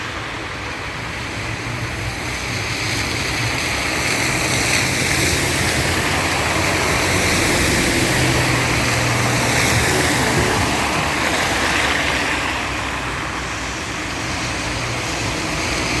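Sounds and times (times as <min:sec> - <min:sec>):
road traffic: 0:00.0 - 0:16.0
steady rain: 0:00.0 - 0:16.0
vehicle engine humming: 0:02.1 - 0:15.2.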